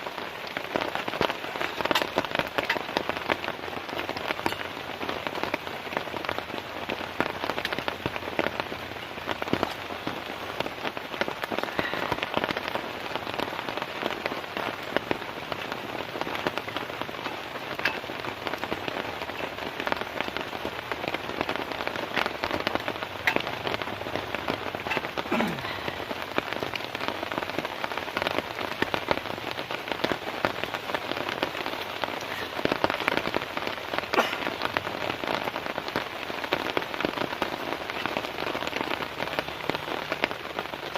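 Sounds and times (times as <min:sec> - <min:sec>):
heavy rain: 0:00.0 - 0:40.9
raindrops hitting close surface: 0:00.0 - 0:40.9.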